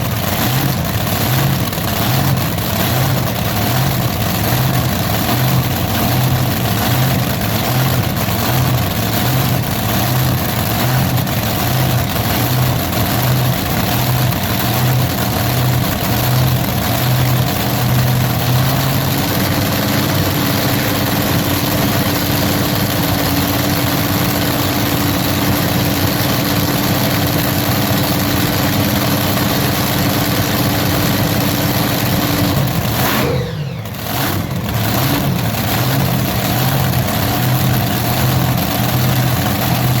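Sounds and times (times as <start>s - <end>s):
loud engine running: 0.0s - 40.0s.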